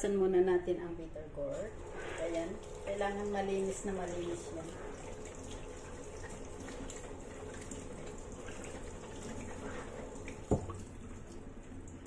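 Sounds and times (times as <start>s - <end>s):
tap water running and splashing: 1.6s - 12.0s.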